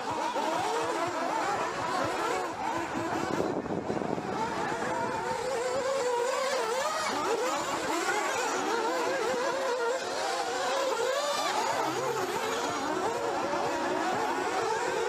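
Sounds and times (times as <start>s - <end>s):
rc buggy engines whining: 0.0s - 15.0s.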